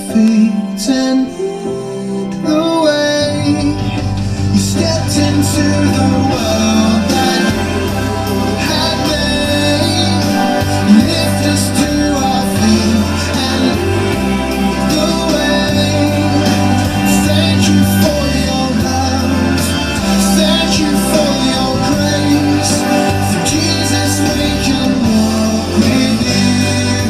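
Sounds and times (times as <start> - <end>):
worship song with guitar and singing: 0.0 - 27.0.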